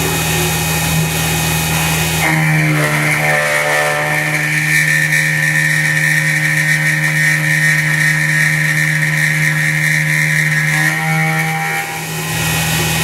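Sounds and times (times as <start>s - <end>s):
mill spindle cutting whine: 0.0s - 13.0s.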